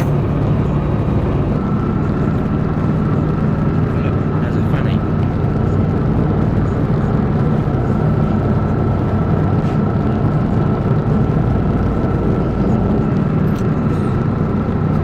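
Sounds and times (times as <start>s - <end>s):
boat engine humming: 0.0s - 15.0s
thin steady whine: 0.0s - 15.0s.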